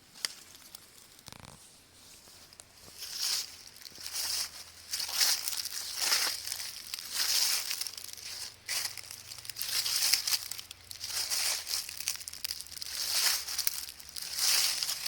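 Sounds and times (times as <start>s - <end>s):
footsteps crunching through dry leaves: 0.2s - 15.0s.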